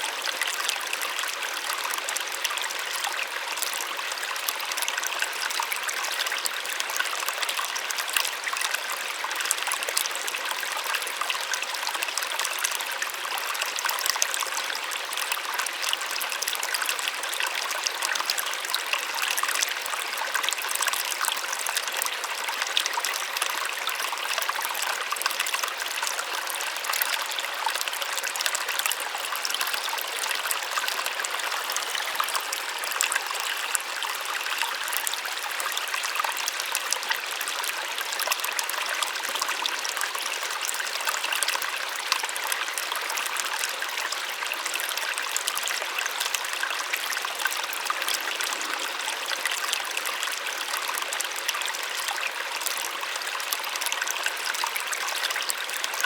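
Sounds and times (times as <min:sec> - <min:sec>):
small waterfall running: 0:00.0 - 0:56.0.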